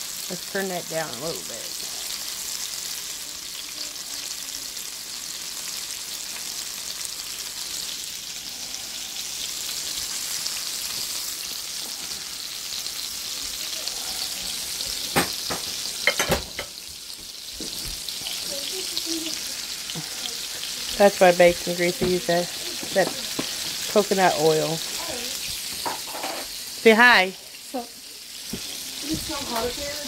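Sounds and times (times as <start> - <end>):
steaks sizzling in grease: 0.0 - 30.0.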